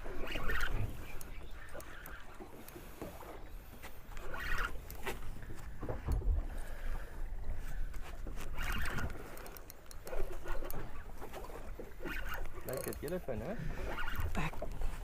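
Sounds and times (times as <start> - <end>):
water sloshing against hull: 0.0 - 15.0.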